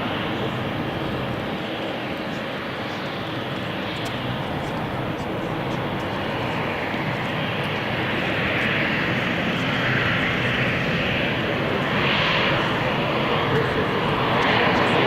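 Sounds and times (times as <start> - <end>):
jet airliner engines rushing: 0.0 - 15.0.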